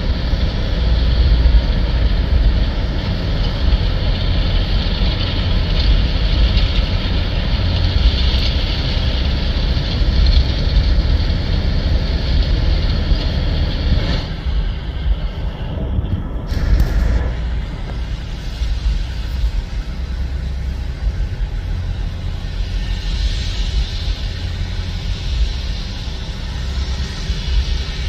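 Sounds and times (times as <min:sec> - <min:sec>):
tractor diesel engine rumble: 0:00.0 - 0:28.0.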